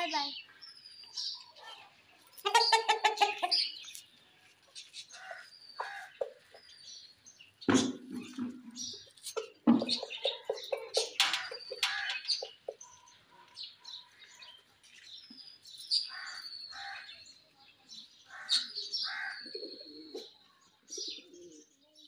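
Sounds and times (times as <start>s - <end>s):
birds chirping and whistling: 0.0s - 17.4s, 18.0s - 21.7s.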